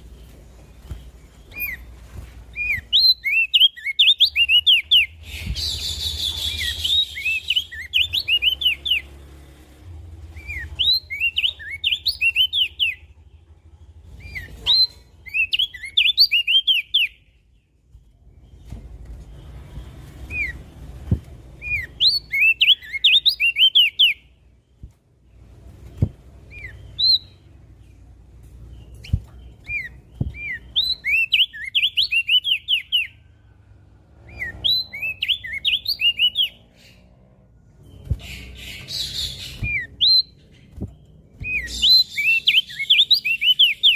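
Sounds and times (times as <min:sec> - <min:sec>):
bird singing rising chirps: 0:00.6 - 0:43.9.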